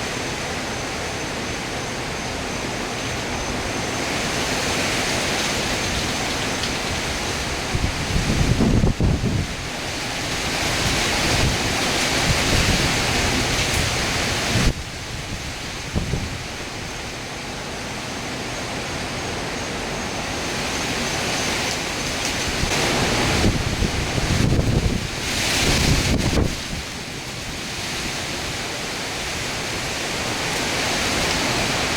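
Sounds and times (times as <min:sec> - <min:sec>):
heavy rain: 0:00.0 - 0:31.9
hurricane wind: 0:00.0 - 0:31.9
wind buffeting microphone: 0:03.3 - 0:17.2, 0:20.2 - 0:31.9.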